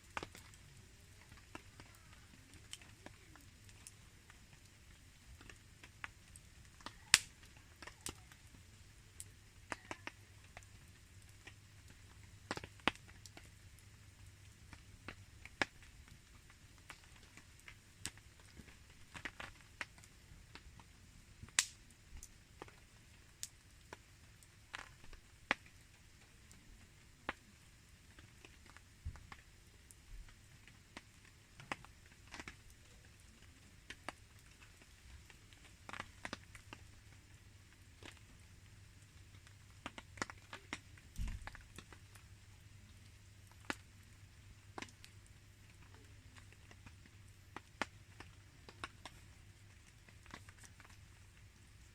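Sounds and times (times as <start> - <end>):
campfire crackling: 0.0 - 51.9
light rain hiss: 0.0 - 51.9.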